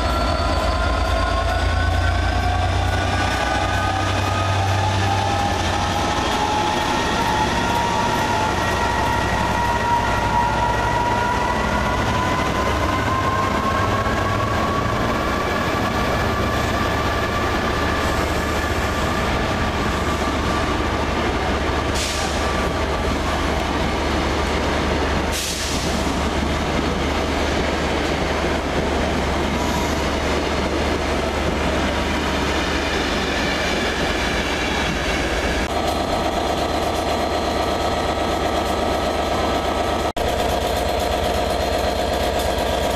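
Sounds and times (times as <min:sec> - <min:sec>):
diesel locomotive engine drone: 0:00.0 - 0:42.9
rising locomotive whine: 0:00.0 - 0:42.9
train coaches rolling past: 0:00.0 - 0:42.9.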